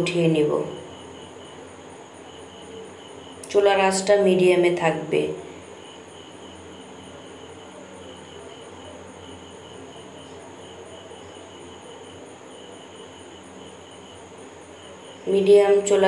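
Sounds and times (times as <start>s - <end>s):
faint steady hiss: 0.0s - 16.0s
insects chirring: 0.0s - 16.0s.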